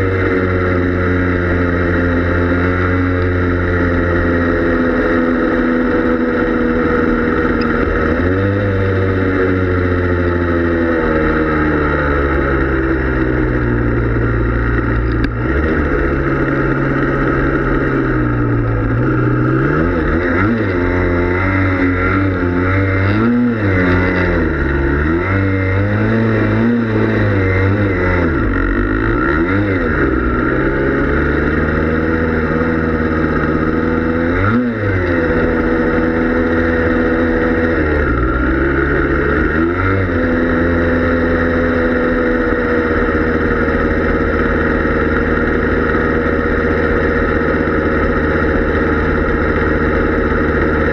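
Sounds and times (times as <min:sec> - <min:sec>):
two-stroke engine revving: 0:00.0 - 0:50.9.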